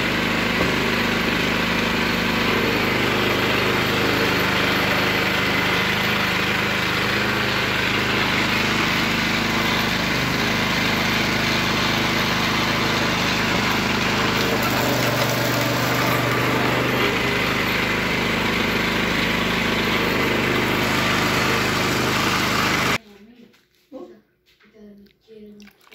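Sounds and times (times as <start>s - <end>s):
juicer motor humming: 0.0s - 23.0s
rollers crushing sugarcane: 0.1s - 23.0s.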